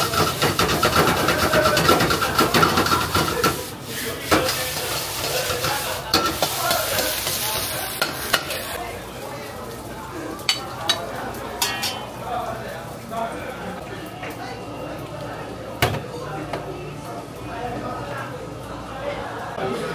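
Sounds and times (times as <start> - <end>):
fried rice sizzling: 0.0 - 16.8.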